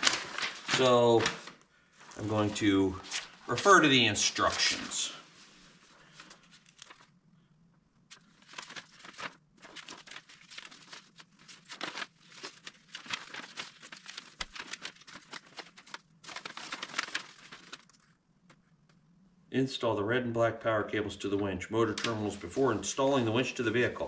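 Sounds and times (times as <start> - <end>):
paper sheets rustling: 0.0 - 7.1, 8.1 - 18.7, 21.8 - 24.0.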